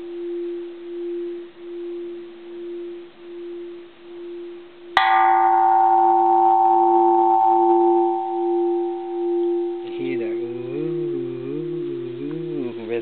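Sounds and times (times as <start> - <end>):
temple bell ringing: 0.0 - 13.0.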